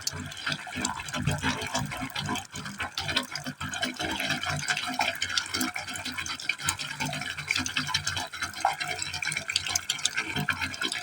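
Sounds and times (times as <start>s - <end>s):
water splashing into a pipe: 0.0s - 11.0s.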